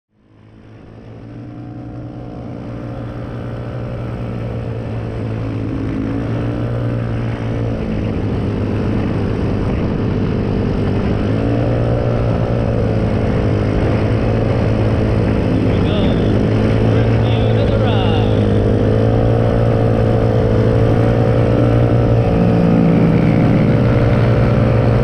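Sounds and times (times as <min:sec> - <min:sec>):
small motorbike engines revving: 0:00.2 - 0:25.0.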